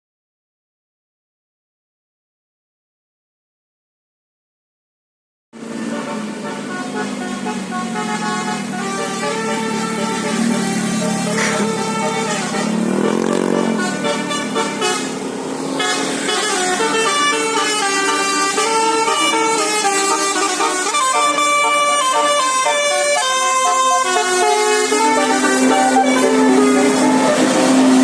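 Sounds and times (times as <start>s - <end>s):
melodic bus horn playing a tune: 5.6s - 28.0s.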